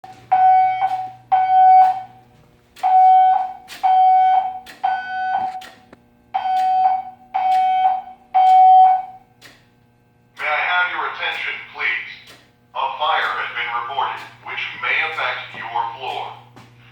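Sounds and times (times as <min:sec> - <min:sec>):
fire alarm horn blasts: 0:00.0 - 0:09.3, 0:10.3 - 0:16.5.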